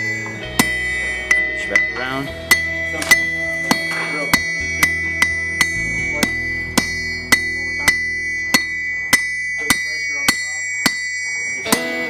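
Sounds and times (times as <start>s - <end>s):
background music: 0.0s - 10.3s
hammer striking steel on anvil: 0.0s - 12.0s.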